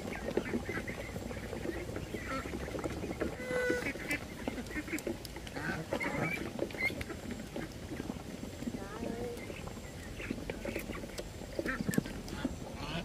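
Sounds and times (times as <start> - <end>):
waterfowl calling: 0.0 - 13.0.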